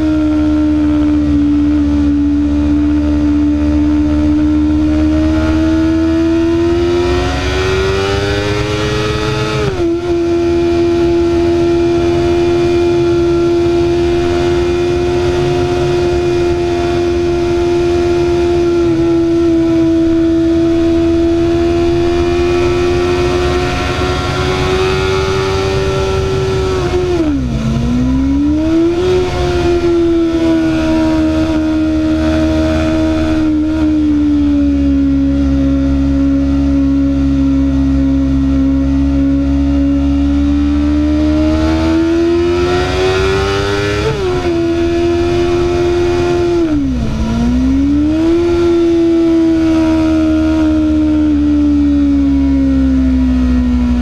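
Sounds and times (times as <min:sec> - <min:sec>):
motorcycle engine under throttle: 0:00.0 - 0:54.0.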